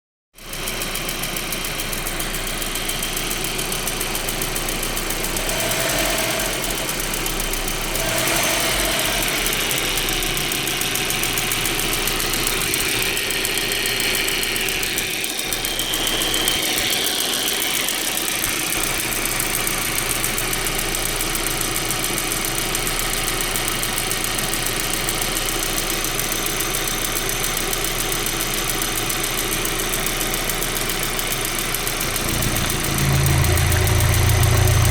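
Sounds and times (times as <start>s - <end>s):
car engine idling: 0.4s - 34.9s
fast engine ticking: 0.4s - 34.9s.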